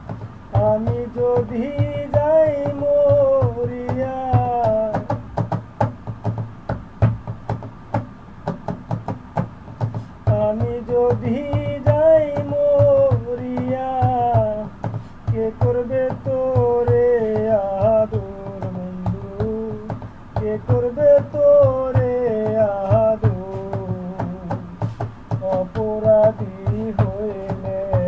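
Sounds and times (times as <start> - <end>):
steady drum beats: 0.0 - 28.0.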